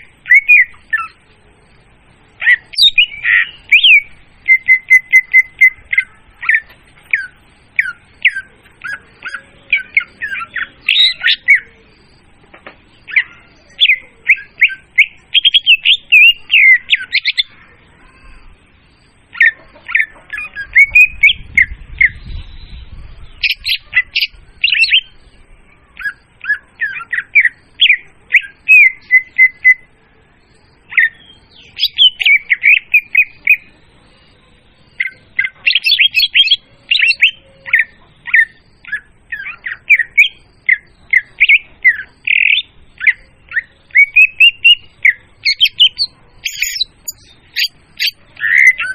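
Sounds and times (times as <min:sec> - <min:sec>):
bird song chirps and whistles: 0:00.0 - 0:01.2, 0:02.4 - 0:12.3, 0:12.9 - 0:48.9.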